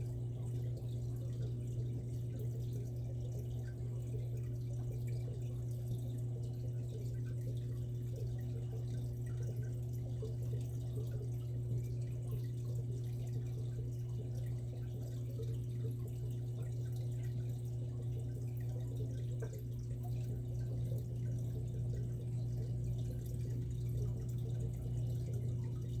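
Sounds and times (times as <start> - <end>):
low filter hum: 0.0 - 26.0
water trickling and dripping: 0.0 - 26.0.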